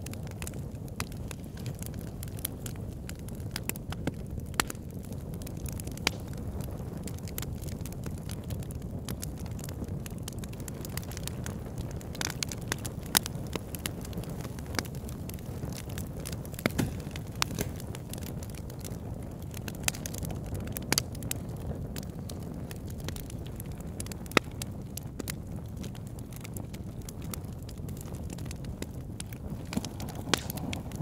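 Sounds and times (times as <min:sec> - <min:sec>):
fire crackling and popping: 0:00.0 - 0:31.0
rush of flames: 0:00.0 - 0:31.0.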